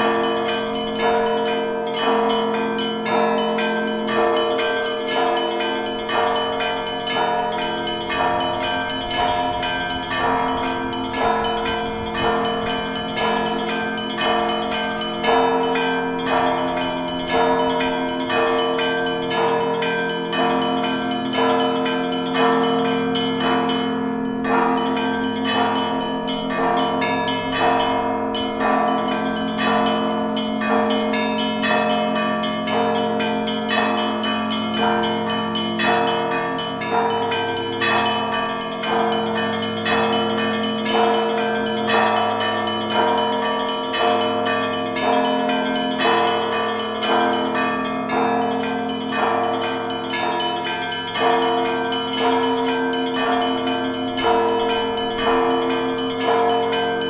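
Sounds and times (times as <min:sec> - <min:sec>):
small church bells pealing: 0:00.0 - 0:57.0.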